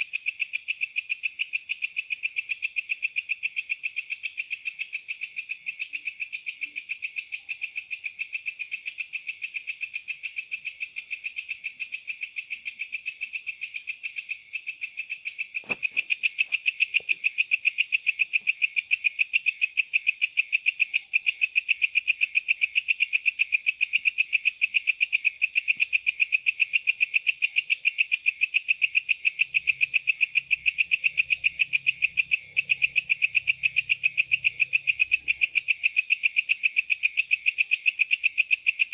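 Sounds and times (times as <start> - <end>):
insect calling in rapid pulses: 0.0 - 38.9.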